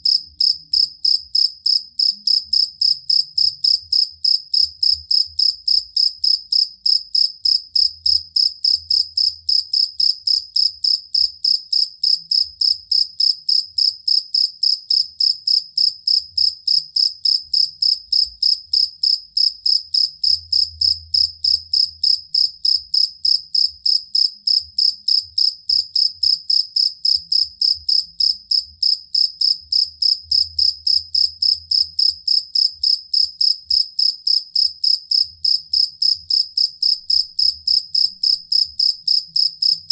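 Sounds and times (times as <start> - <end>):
field cricket chirping: 0.0 - 39.9.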